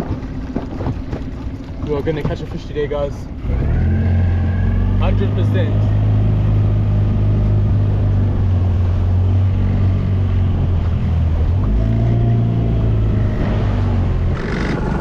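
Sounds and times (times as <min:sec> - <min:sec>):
small outboard motor running: 0:00.0 - 0:15.0.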